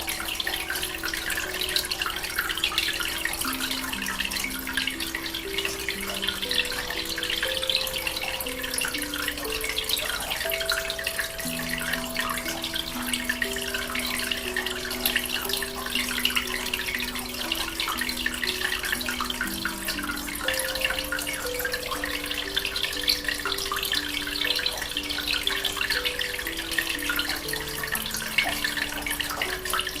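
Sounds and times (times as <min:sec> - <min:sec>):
aquarium water bubbling: 0:00.0 - 0:30.0
soft background music: 0:00.0 - 0:30.0.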